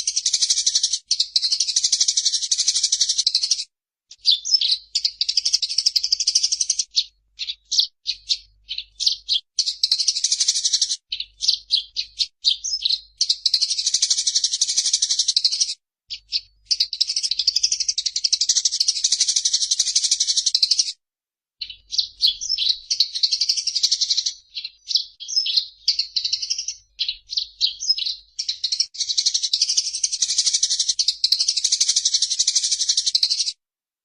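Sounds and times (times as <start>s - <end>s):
sparrows chattering: 0.0s - 21.0s, 21.6s - 33.6s.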